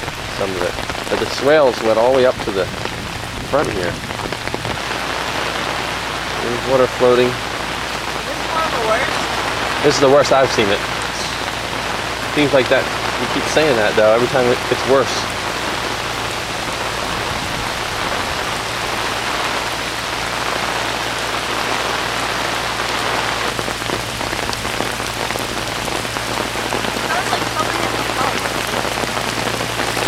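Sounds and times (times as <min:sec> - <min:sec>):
heavy rain hissing: 0:00.0 - 0:30.0.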